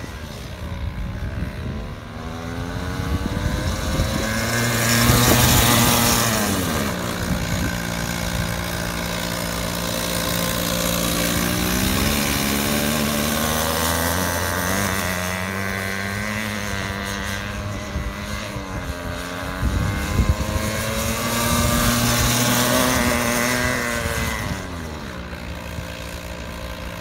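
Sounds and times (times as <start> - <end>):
go-kart engine revving: 0.0 - 27.0.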